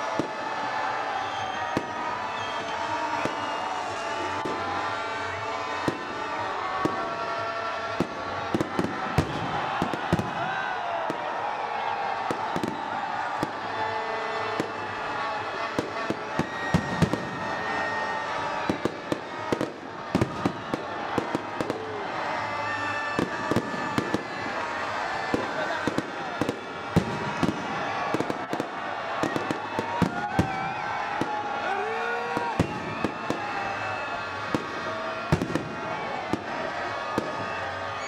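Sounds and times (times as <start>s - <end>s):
fireworks bangs and crackling pops: 0.0s - 31.6s, 32.3s - 38.0s
steady background din: 0.0s - 38.0s.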